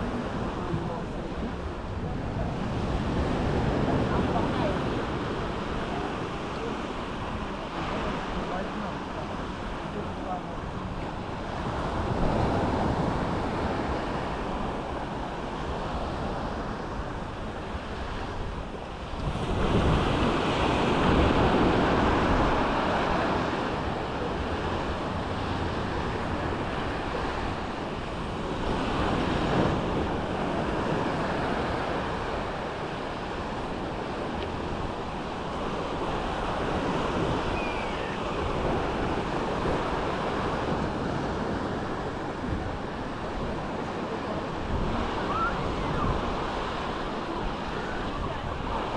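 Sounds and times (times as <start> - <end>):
sea waves washing onto beach: 0.0 - 48.9.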